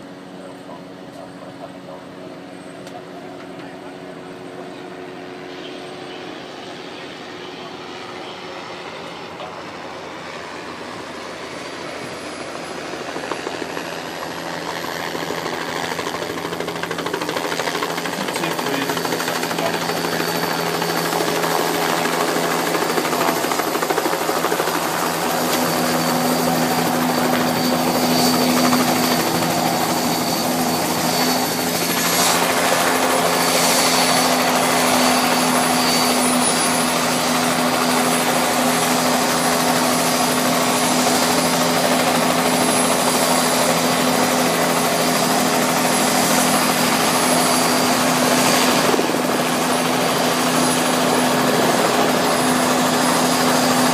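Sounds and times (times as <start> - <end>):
helicopter engine and rotor hum: 0.0 - 53.9
helicopter turbine whine: 0.0 - 53.9.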